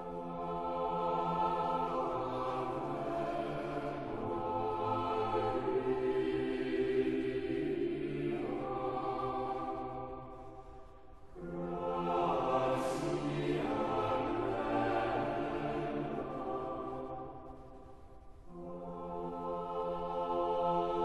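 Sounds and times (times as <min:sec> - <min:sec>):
choir singing slow chant: 0:00.0 - 0:21.0.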